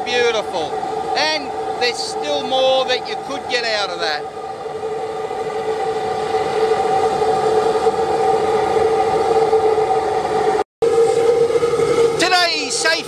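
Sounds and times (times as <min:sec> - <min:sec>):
oil burner roaring: 0:00.0 - 0:13.0.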